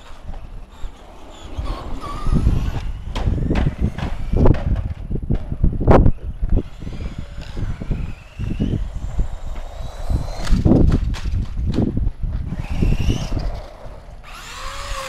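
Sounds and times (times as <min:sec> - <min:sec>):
rc car motor whine: 0:00.0 - 0:05.2, 0:06.1 - 0:11.2, 0:12.5 - 0:15.0.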